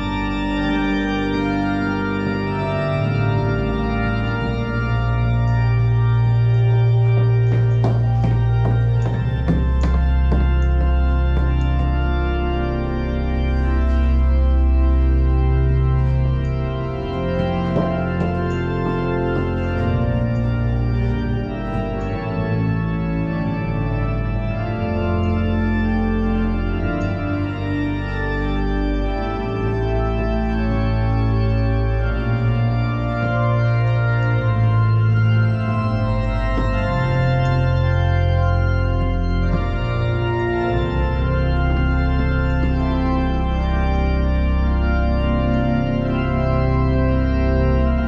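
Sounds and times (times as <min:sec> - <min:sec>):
church pipe organ chords: 0:00.0 - 0:48.0
deep pedal bass notes: 0:00.0 - 0:48.0.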